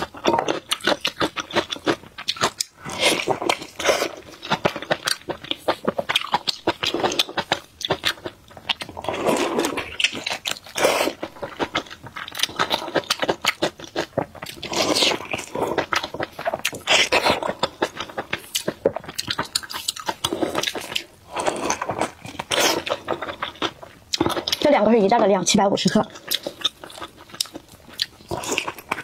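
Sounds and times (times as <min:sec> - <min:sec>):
wet chewing and lip-smacking: 0:00.0 - 0:24.8, 0:25.5 - 0:29.0.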